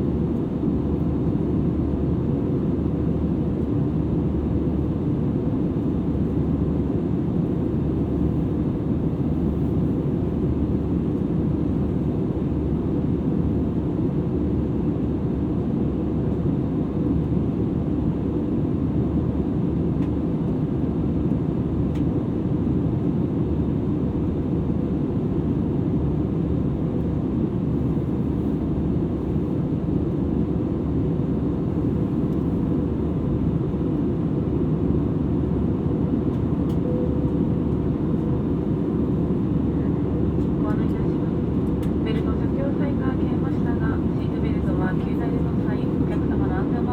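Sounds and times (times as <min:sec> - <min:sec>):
aircraft cabin rumble: 0:00.0 - 0:46.9.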